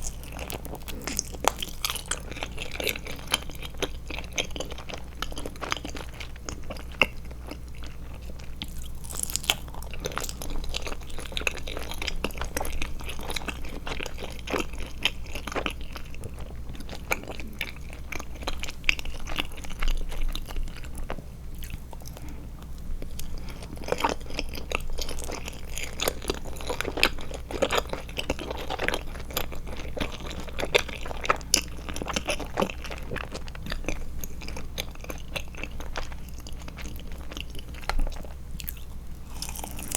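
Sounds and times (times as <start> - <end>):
chewing gummy candies: 0.0 - 39.9.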